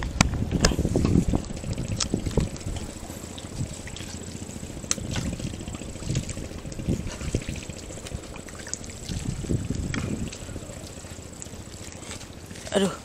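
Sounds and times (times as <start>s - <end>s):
seawater lapping and sloshing: 0.0s - 13.0s.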